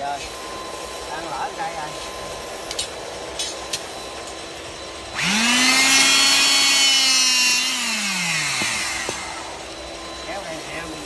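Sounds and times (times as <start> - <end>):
hydraulic cutter motor whine: 0.0 - 11.0.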